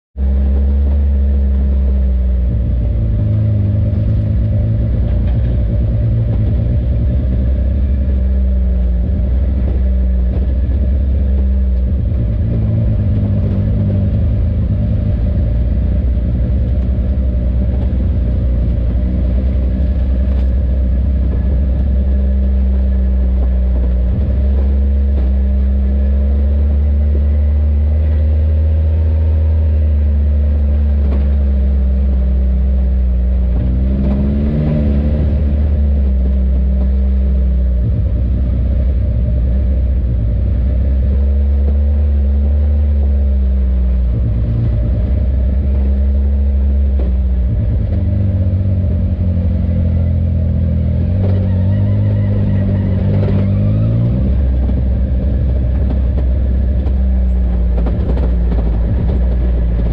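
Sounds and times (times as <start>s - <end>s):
utility vehicle engine driving: 0.1s - 59.9s.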